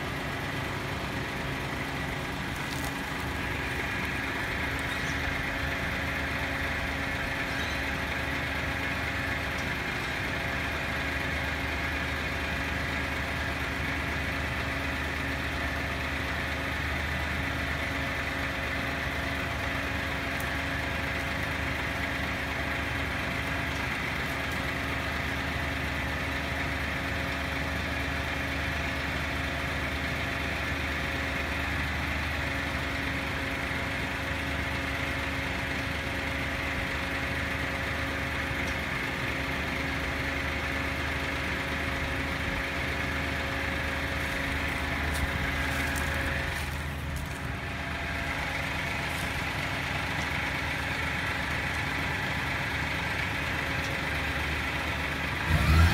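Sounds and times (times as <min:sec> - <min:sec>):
truck diesel engine idling: 0:00.0 - 0:55.9.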